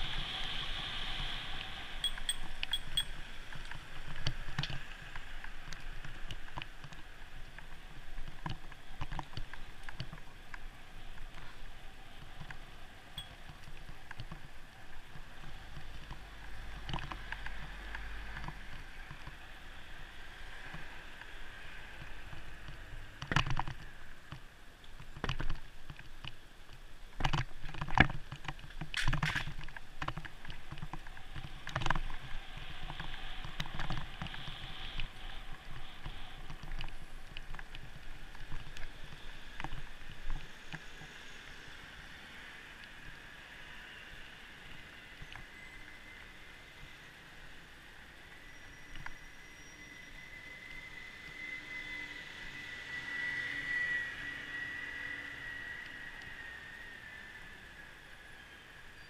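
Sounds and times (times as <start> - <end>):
muffled wind and road noise: 0.0 - 59.0.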